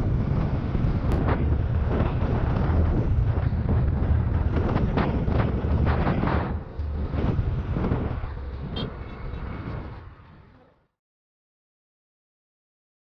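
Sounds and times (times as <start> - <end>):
wind buffeting microphone: 0.0 - 10.5
engine and road rumble: 0.0 - 11.0.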